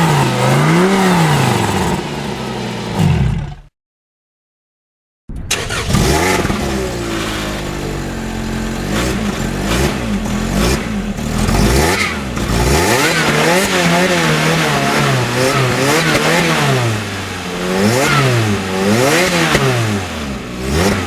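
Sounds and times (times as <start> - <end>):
car engine starting and revving: 0.0 - 3.6, 5.3 - 21.0.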